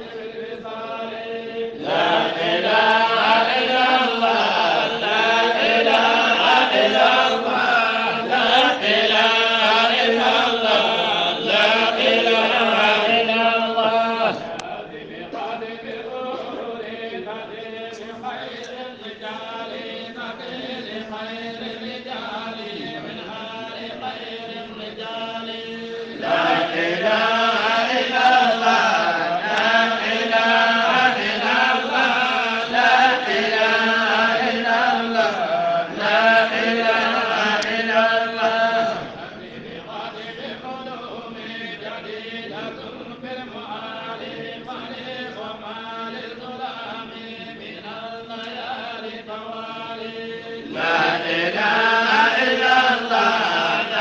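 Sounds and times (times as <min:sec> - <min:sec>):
person chanting melodically: 0:00.0 - 0:54.0.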